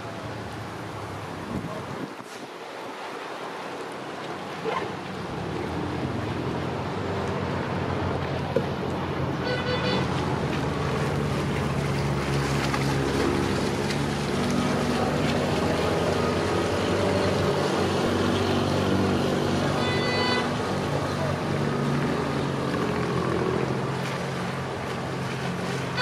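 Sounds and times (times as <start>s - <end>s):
water churning: 0.0s - 26.0s
motor boat engine running: 4.4s - 26.0s.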